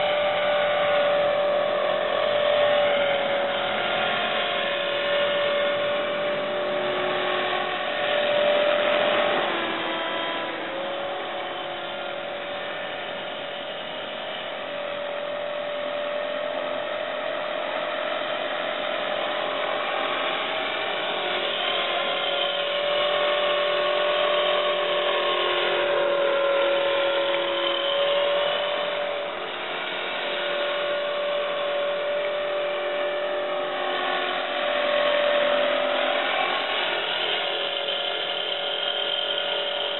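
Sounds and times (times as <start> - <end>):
model helicopter rotor whine: 0.0 - 39.9.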